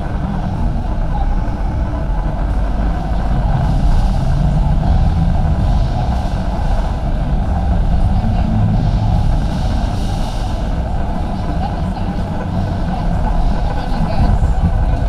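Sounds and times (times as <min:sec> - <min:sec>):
indistinct crowd noise: 0:00.0 - 0:15.0
shopping trolleys rolling on concrete: 0:00.0 - 0:15.0.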